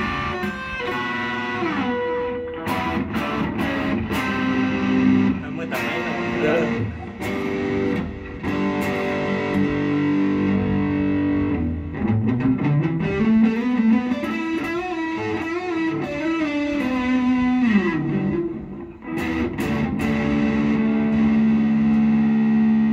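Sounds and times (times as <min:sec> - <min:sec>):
electric guitar chords: 0:00.0 - 0:22.9
electric guitar lead with bends: 0:00.0 - 0:22.9.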